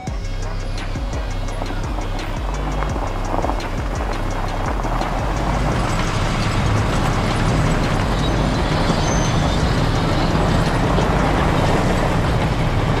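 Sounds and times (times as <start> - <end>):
crawler tracks moving: 0.0 - 13.0
excavator diesel engine running: 0.0 - 13.0.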